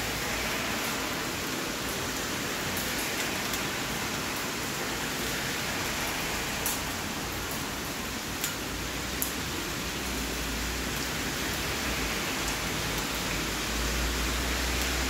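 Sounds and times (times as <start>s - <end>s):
sharp ticks of raindrops: 0.0s - 15.0s
steady rain hiss: 0.0s - 15.0s.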